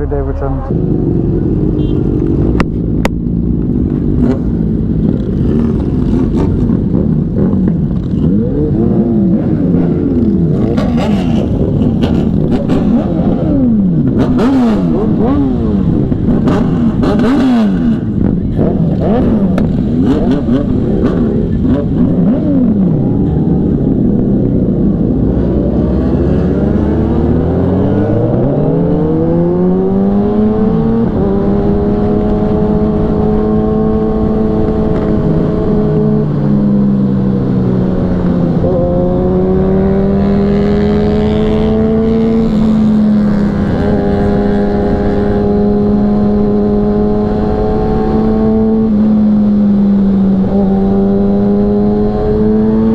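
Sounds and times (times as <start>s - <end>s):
motorcycle engine accelerating: 0.0s - 52.9s
motorcycle engines revving: 0.0s - 52.9s.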